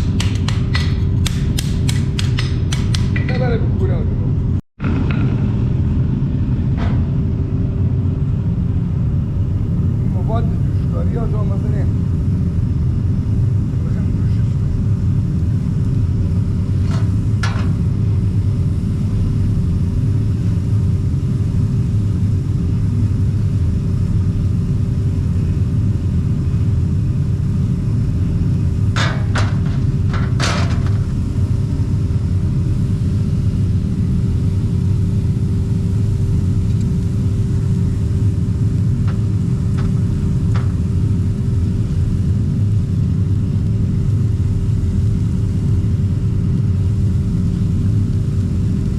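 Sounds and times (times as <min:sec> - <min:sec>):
machine humming with low rumble: 0:00.0 - 0:48.9.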